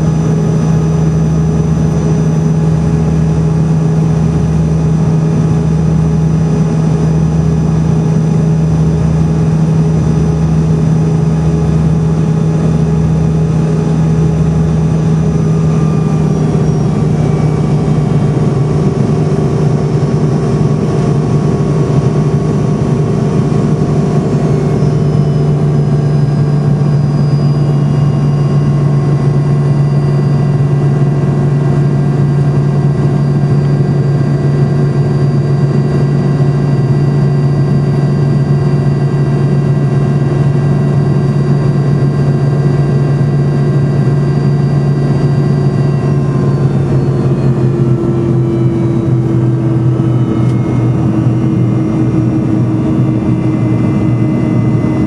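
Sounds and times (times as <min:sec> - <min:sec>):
engine whining tones: 0:00.0 - 0:55.0
jet engine cabin drone: 0:00.0 - 0:55.0.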